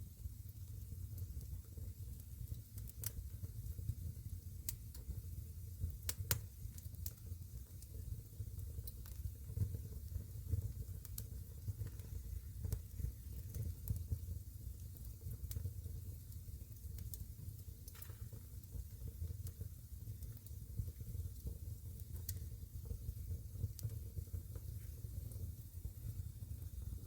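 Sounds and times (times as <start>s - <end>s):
campfire crackling and popping: 0.2s - 27.0s.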